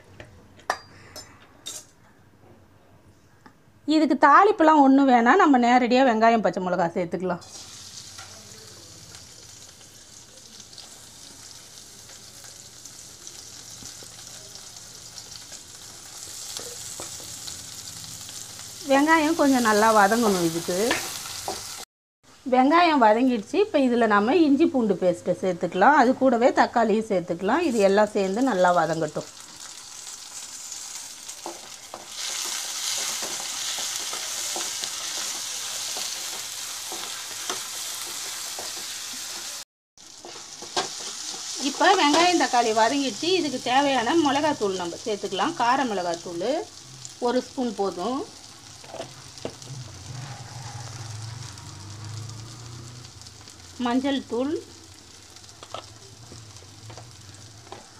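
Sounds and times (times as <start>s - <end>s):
onions sizzling in hot oil: 7.4s - 57.9s.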